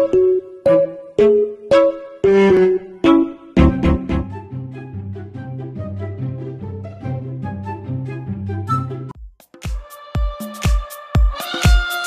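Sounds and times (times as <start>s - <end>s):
bouncy background music: 0.0s - 12.0s.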